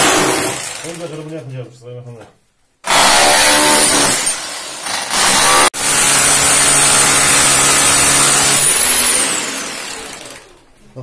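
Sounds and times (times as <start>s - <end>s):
angle grinder cutting concrete: 0.0s - 1.2s, 2.9s - 10.6s.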